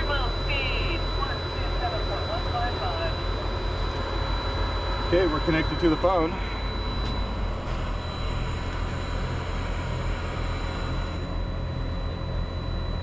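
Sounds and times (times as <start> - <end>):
high-pitched whine: 0.0 - 13.0
vehicle engine idling: 0.0 - 13.0.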